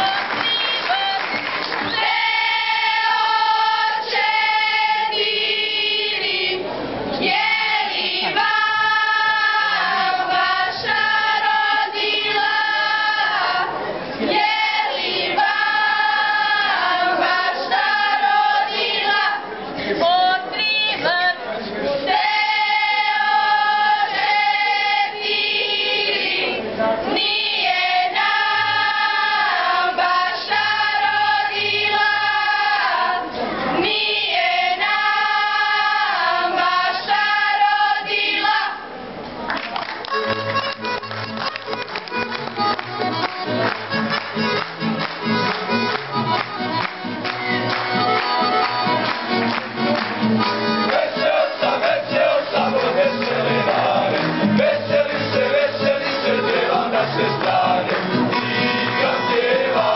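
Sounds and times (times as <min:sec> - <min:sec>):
group singing unaccompanied: 0:01.7 - 0:21.2, 0:22.0 - 0:39.0, 0:46.6 - 0:59.9.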